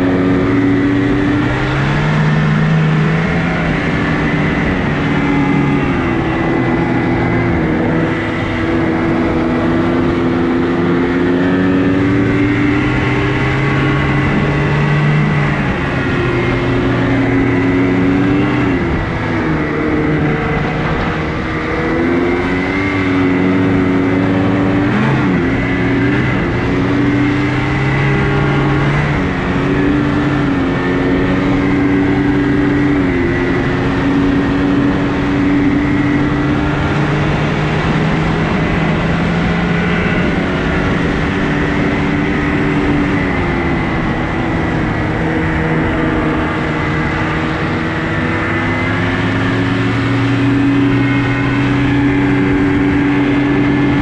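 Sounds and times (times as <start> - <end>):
snowmobile engine running: 0.0 - 54.0
steady high whine: 0.0 - 54.0.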